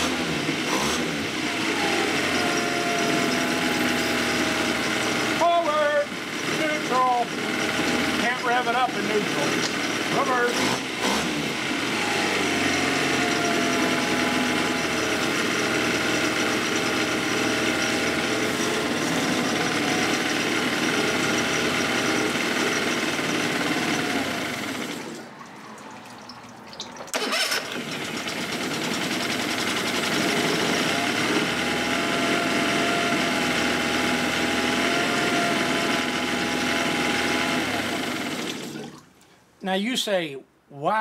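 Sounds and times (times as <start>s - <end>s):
outboard motor running: 0.0s - 39.1s.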